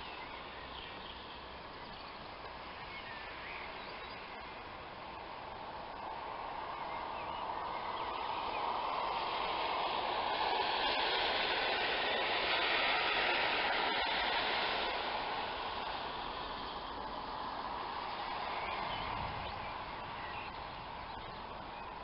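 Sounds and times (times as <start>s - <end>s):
tyre hiss on wet road: 0.0s - 22.0s.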